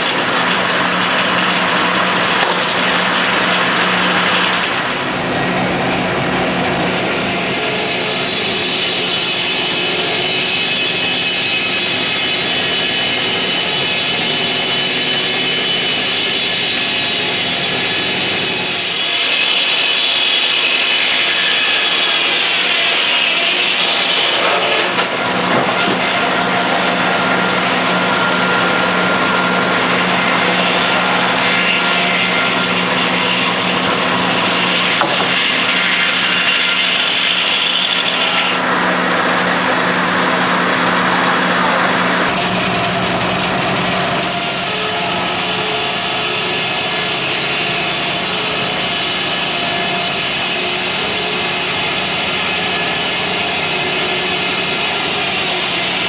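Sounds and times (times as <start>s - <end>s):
circular saw blades whirring: 0.0s - 56.0s
wood being sawn: 0.0s - 56.0s.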